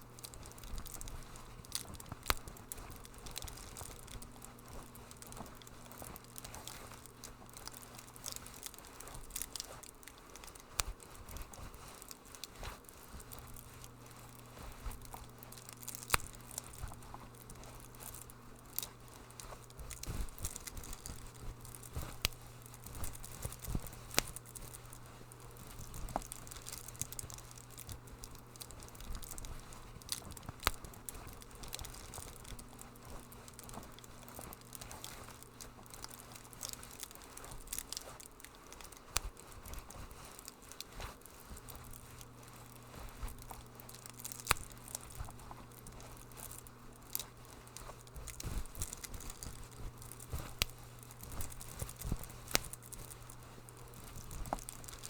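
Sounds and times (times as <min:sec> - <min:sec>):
fire popping and snapping: 0:00.0 - 0:55.0
wood fire crackling: 0:00.0 - 0:55.0.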